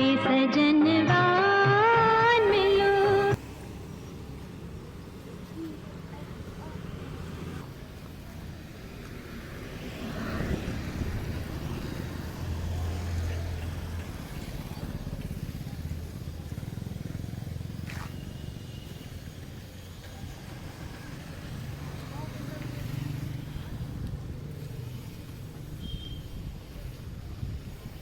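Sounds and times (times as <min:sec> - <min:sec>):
vehicle engine rumble: 0:02.4 - 0:28.0.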